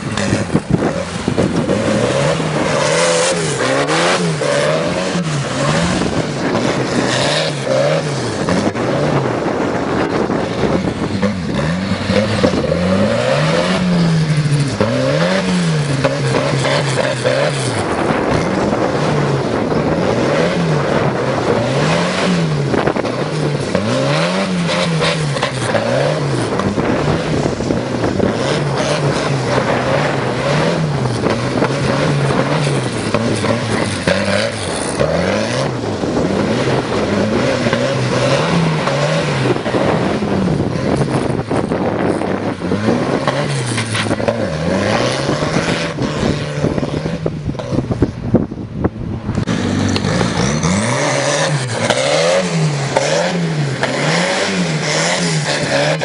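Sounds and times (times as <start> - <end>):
tractor engine revving: 0.0 - 56.0.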